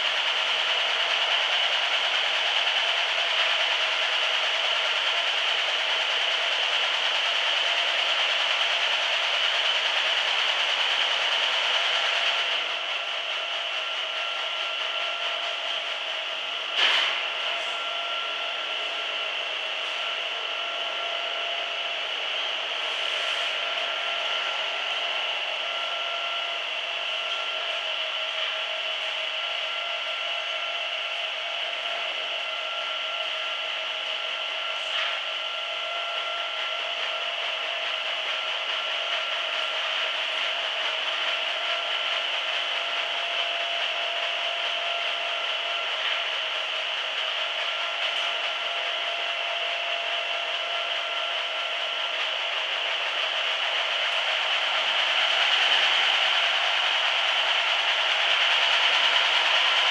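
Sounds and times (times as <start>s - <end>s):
rug-dusting machine whirring: 0.0s - 59.9s.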